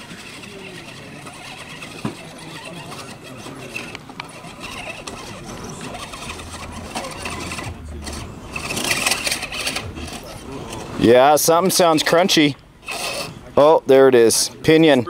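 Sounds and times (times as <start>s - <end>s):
electric motor and gears whining: 0.0s - 13.8s
grinding gears: 0.0s - 14.4s.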